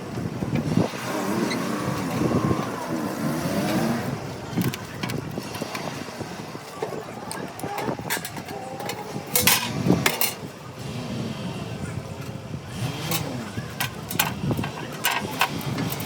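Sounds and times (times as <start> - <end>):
workshop din: 0.0 - 16.0.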